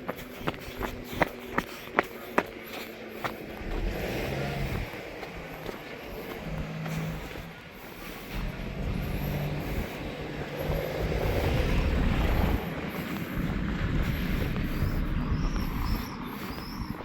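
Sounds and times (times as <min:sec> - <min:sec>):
low engine rumble: 0:00.0 - 0:17.0
wind buffeting microphone: 0:03.2 - 0:17.0.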